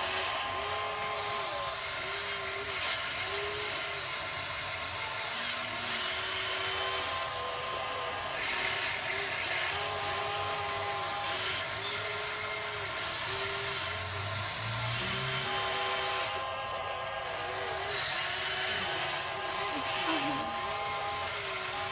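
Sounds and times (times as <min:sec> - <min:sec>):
toy electric motors whining: 0:00.0 - 0:21.9.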